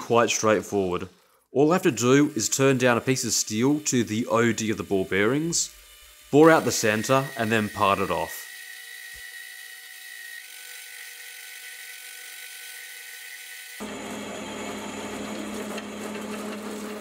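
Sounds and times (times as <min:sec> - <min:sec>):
metal lathe cutting steel: 0:01.7 - 0:17.0.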